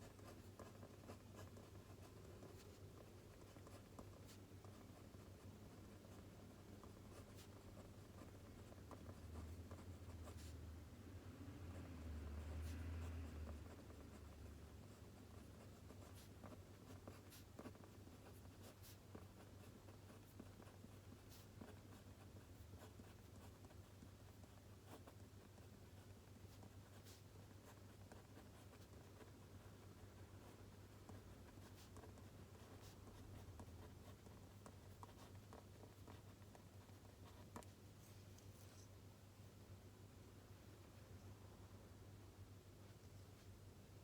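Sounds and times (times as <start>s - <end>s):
writing on paper: 0.0s - 10.8s, 11.6s - 39.0s.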